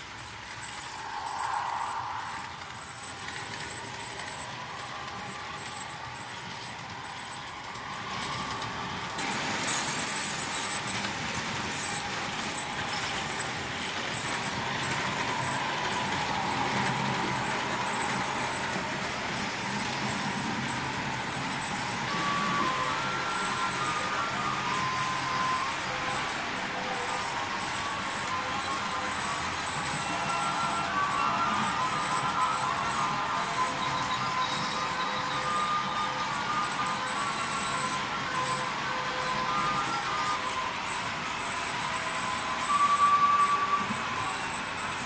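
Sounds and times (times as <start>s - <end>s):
model trains running on track: 0.0s - 45.0s.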